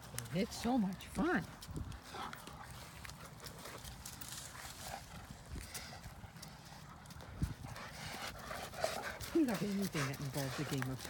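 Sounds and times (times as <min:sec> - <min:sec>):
dog paws scuffing on sandy ground: 0:00.0 - 0:11.0.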